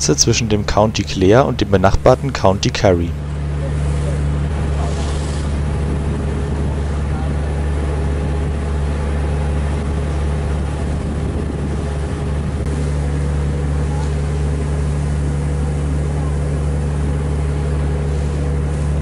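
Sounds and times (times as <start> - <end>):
low engine drone: 0.0 - 19.0
water rushing along hull: 0.0 - 19.0.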